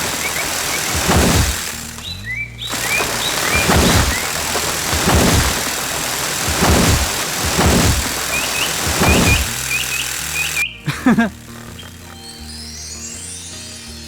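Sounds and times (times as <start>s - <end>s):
cartoon farm machinery running: 0.0s - 12.4s.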